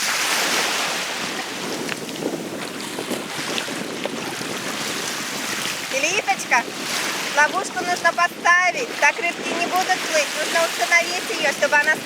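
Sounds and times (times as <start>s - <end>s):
sea waves washing in: 0.0s - 12.0s
wind on microphone: 0.0s - 12.0s.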